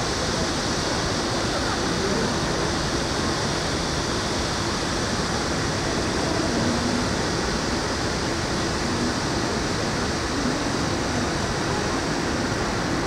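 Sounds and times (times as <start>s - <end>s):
city ambience rushing noise: 0.0s - 13.0s.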